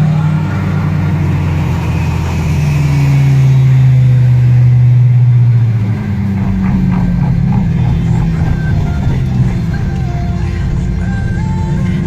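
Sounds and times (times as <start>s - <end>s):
car engine running hard: 0.0s - 12.0s.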